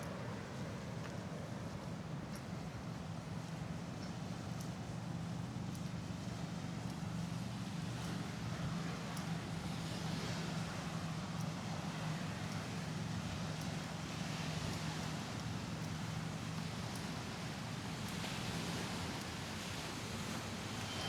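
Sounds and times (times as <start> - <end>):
faint light ticks: 0.0 - 21.0.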